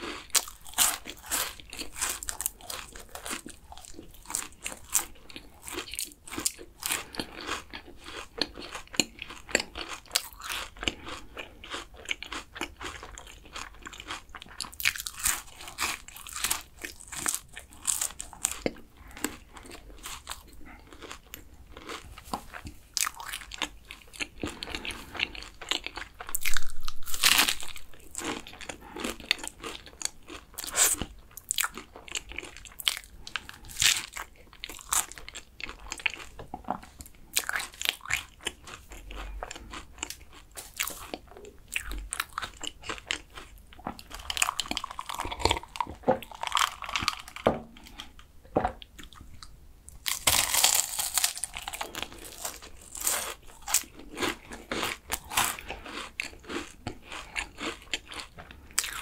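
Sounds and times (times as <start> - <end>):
crunching and chewing pastry: 0.0 - 59.0.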